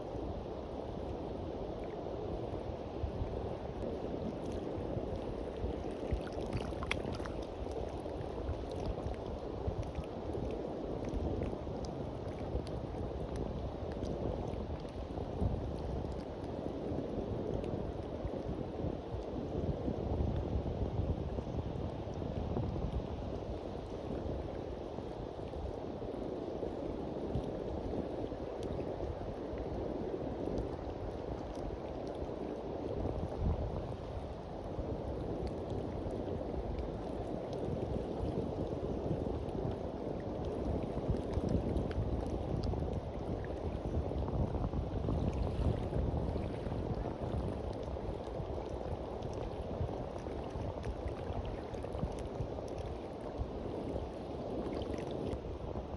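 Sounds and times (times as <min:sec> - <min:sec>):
sea waves washing onto beach: 0:00.0 - 0:55.9.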